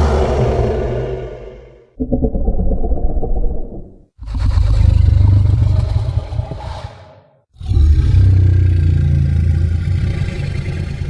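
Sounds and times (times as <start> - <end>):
deep drawn-out creature calls: 0.0 - 11.0.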